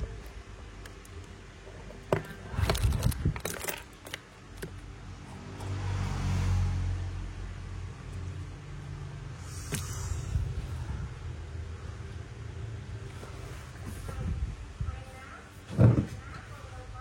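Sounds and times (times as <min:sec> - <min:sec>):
low engine rumble: 0:00.0 - 0:15.4.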